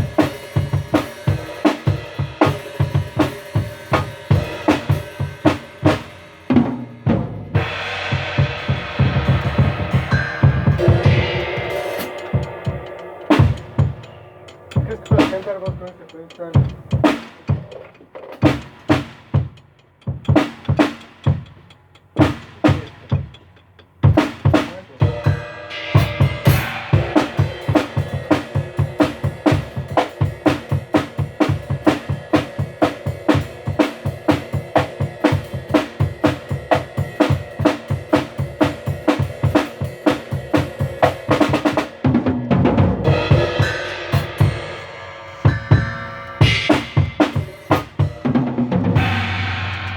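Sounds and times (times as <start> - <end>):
drum kit beat: 0.0 - 49.9.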